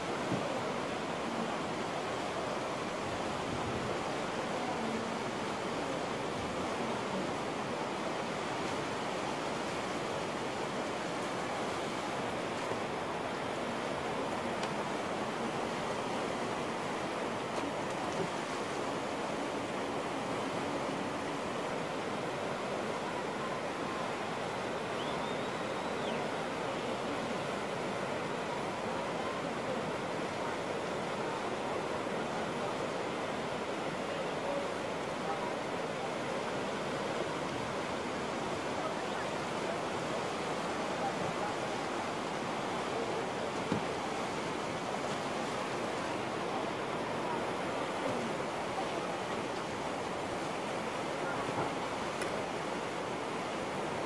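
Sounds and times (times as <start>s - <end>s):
whitewater rapids rushing: 0.0s - 54.0s.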